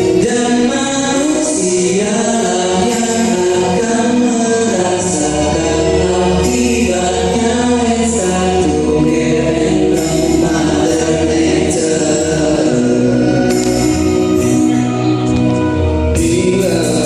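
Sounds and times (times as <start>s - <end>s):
low bass line: 0.0s - 17.0s
vocal group singing in harmony: 0.0s - 17.0s.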